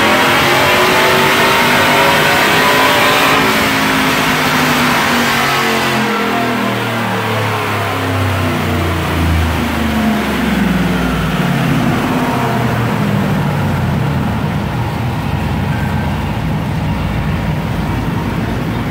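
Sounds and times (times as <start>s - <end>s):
engine revs falling: 0.0s - 18.9s.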